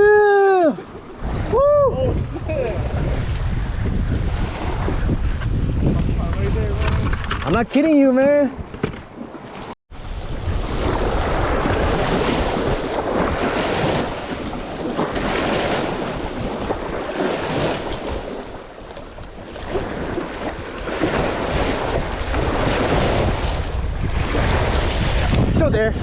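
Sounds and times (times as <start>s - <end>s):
water moving around a boat: 0.0s - 26.0s
wind gusting across microphone: 0.0s - 26.0s.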